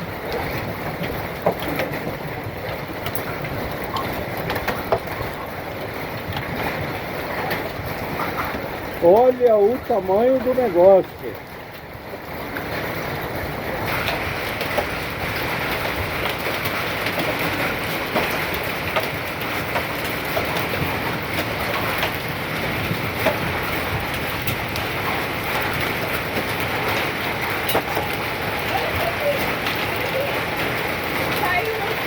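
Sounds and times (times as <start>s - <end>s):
hailstones clattering: 0.0s - 32.0s.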